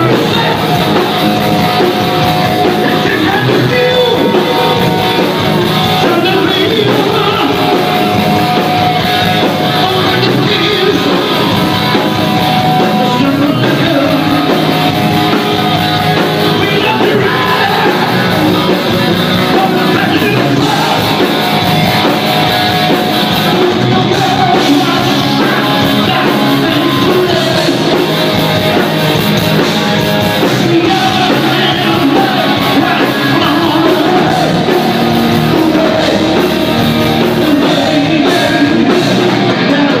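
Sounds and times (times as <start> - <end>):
rock music with singing: 0.0 - 40.0.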